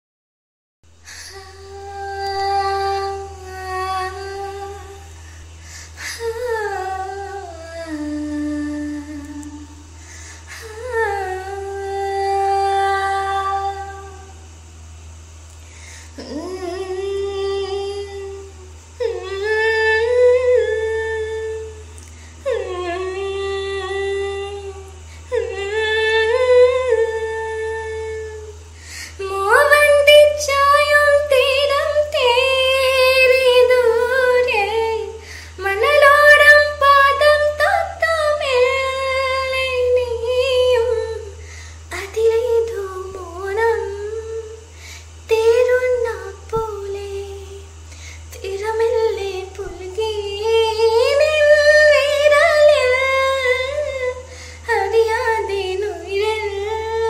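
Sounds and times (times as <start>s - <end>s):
steady low hum: 0.9s - 57.0s
woman singing unaccompanied: 1.0s - 5.2s, 5.9s - 14.4s, 16.1s - 57.0s.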